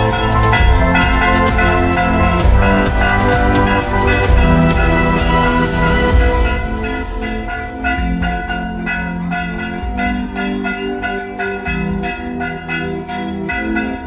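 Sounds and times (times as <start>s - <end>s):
bass line: 0.0s - 14.0s
bell struck rhythmically: 0.0s - 14.0s.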